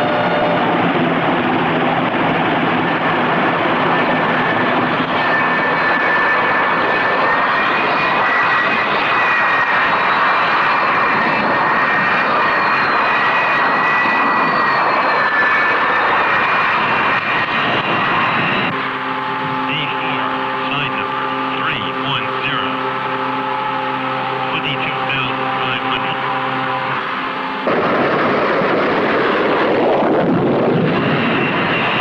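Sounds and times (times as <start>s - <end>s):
jet engine roaring with whine: 0.0s - 32.0s.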